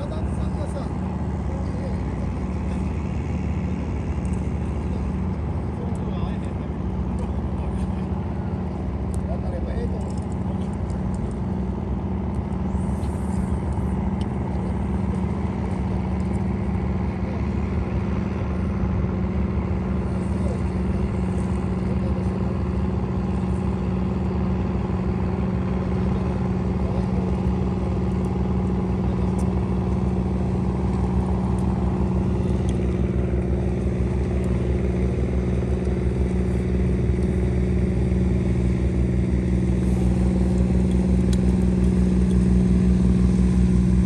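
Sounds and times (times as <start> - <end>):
motorboat engine droning: 0.0 - 44.0.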